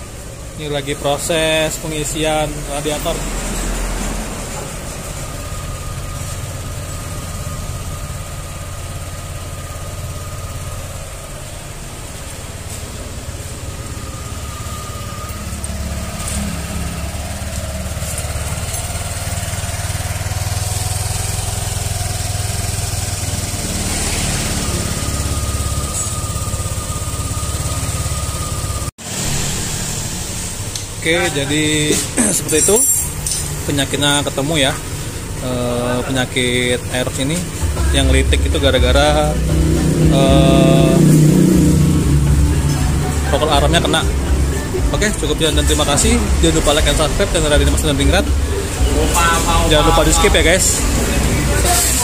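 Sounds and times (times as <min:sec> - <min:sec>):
scooter engine idling: 0:00.0 - 0:52.0.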